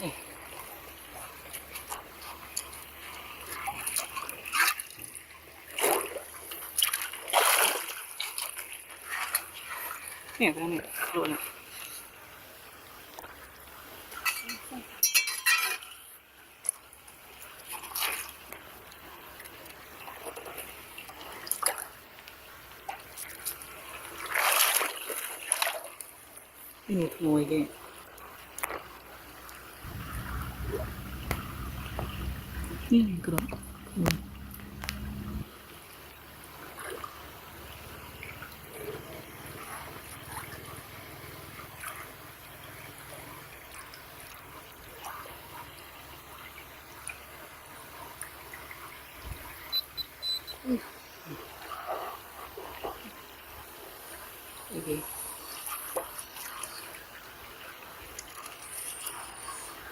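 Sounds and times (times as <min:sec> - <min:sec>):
shallow water trickling and splashing: 0:00.0 - 0:59.9.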